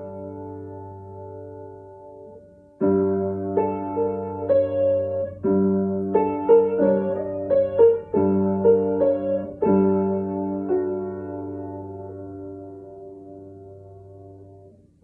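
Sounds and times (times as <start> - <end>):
slow piano chords and melody: 0.0 - 15.0.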